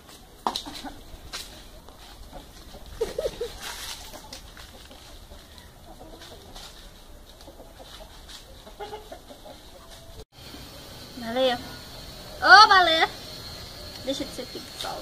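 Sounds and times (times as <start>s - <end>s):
steady background noise: 0.0s - 15.0s
chickens clucking faintly: 0.1s - 15.0s.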